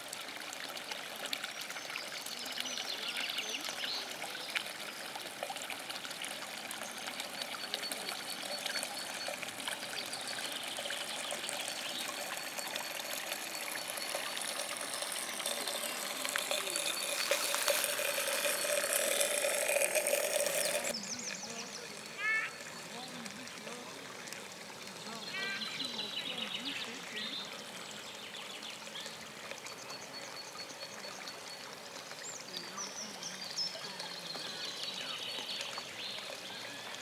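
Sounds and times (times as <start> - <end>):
running water: 0.0 - 37.0.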